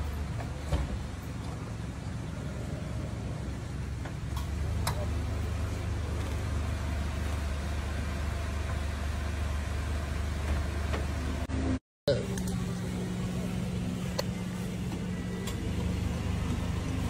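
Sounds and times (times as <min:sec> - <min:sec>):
minivan engine idling: 0:00.0 - 0:17.0.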